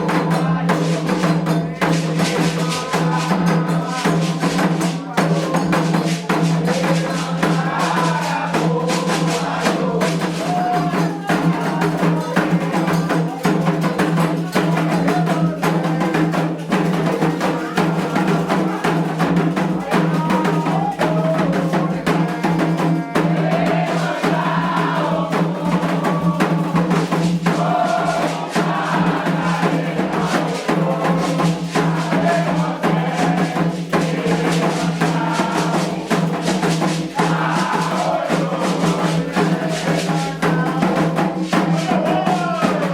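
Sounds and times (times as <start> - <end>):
hand drums: 0.0 - 42.9
struck bell rhythm: 0.0 - 42.9
voices singing a chant: 0.0 - 42.9.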